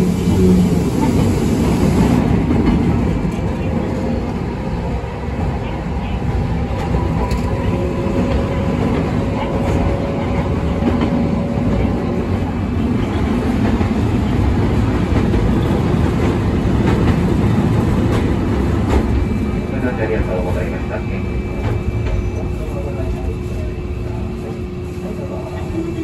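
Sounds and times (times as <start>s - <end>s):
tram traction motor rumble: 0.0s - 26.0s.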